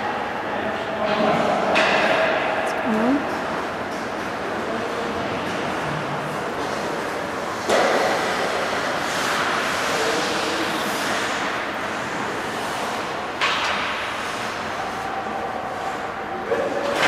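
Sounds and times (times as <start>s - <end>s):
skating and arena noise: 0.0s - 17.0s.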